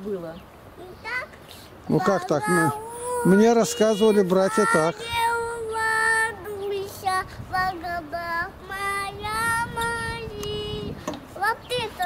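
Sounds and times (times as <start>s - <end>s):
little girl singing: 0.8s - 12.0s.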